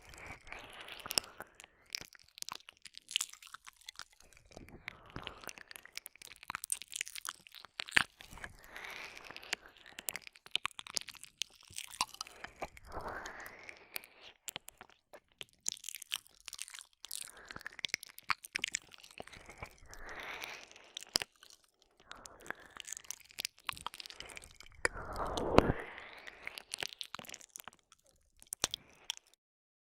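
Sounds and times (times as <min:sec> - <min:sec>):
lip and tongue clicks: 0:00.0 - 0:29.4
wet licking and sucking: 0:00.0 - 0:29.4
mouth slurping: 0:03.3 - 0:15.0, 0:17.1 - 0:29.4.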